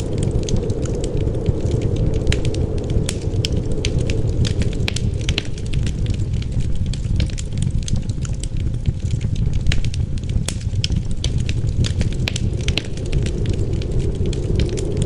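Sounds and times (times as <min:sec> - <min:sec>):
low wind rumble: 0:00.0 - 0:15.0
wood fire crackling: 0:00.0 - 0:15.0.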